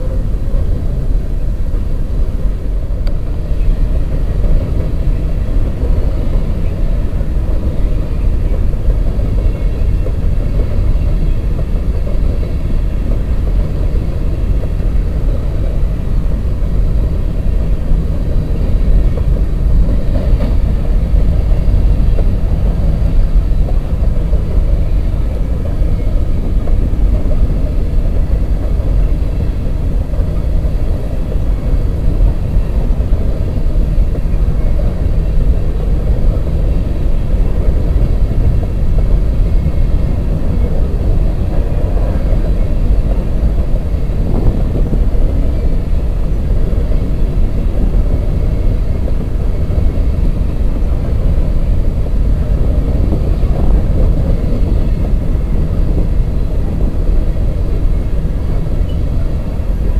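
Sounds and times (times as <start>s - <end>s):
steel train wheels on rails: 0.0s - 59.9s.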